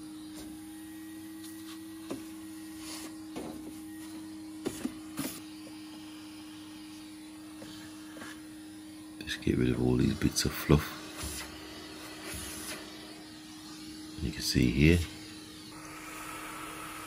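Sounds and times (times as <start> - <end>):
vacuum cleaner humming: 0.0 - 17.0.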